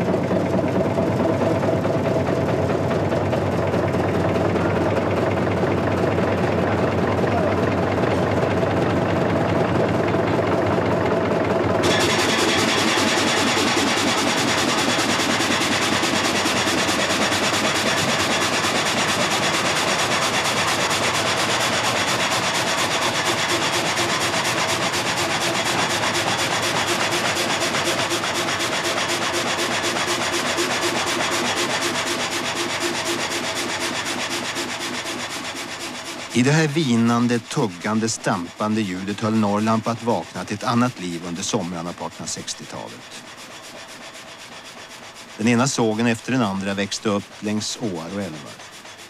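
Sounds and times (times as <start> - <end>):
frame saw rasping through log: 0.0 - 49.0.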